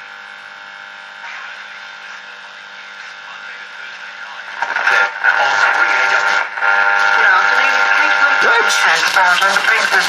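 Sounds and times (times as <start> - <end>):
radio hum: 0.0 - 10.0.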